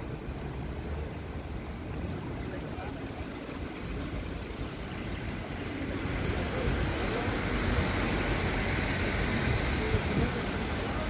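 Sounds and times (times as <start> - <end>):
rushing street noise: 0.0 - 11.0.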